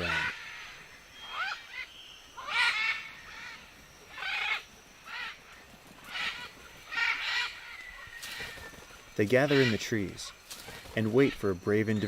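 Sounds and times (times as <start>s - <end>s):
macaws squawking: 0.0s - 12.0s.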